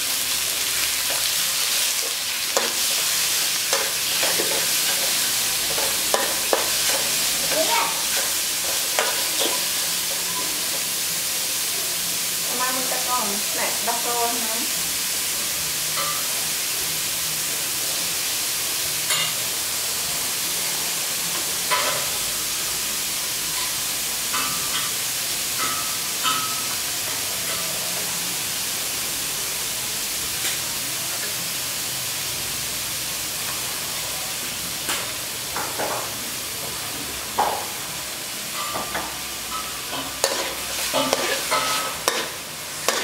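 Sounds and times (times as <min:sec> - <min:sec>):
meat sizzling in a wok: 0:00.0 - 0:43.0.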